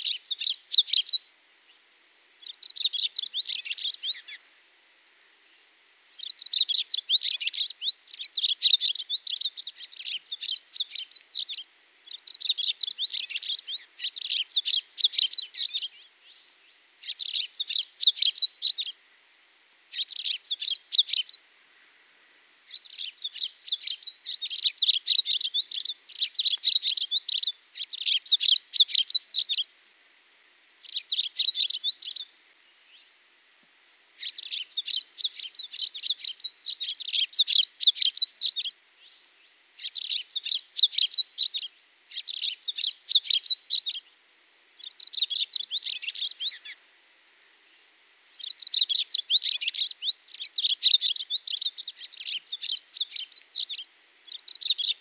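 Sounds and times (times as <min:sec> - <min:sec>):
songbird chirping and trilling: 0:00.0 - 0:01.8, 0:02.4 - 0:19.0, 0:19.9 - 0:21.4, 0:22.6 - 0:30.2, 0:30.8 - 0:33.2, 0:34.2 - 0:55.0.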